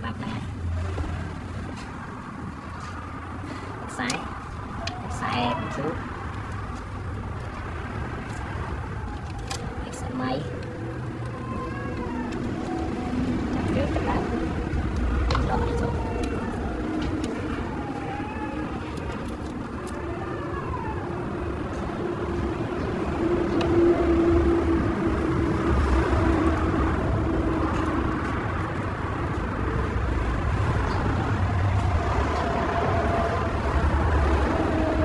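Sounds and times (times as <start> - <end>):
mechanical hum over low rumble: 0.0 - 35.0.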